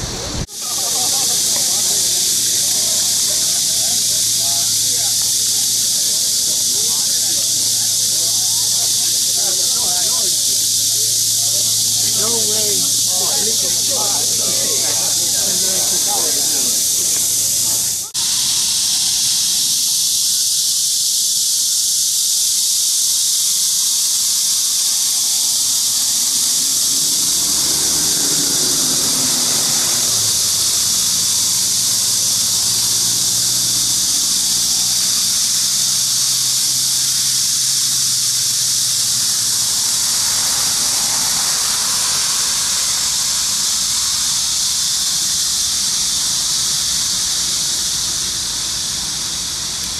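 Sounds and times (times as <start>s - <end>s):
cicadas buzzing: 0.0s - 49.9s.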